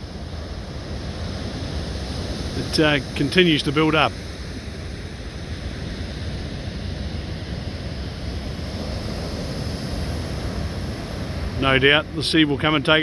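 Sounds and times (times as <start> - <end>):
wind rumble on microphone: 0.0 - 13.0
water rushing into surf: 0.6 - 13.0.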